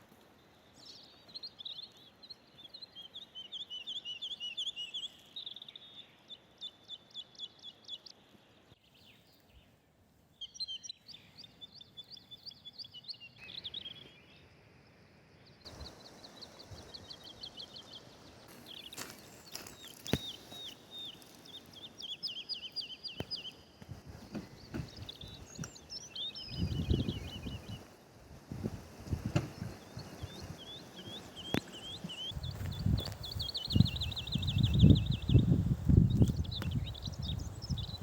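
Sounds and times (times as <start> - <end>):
faint outdoor background noise: 0.0 - 38.0
songbirds singing: 0.0 - 38.0.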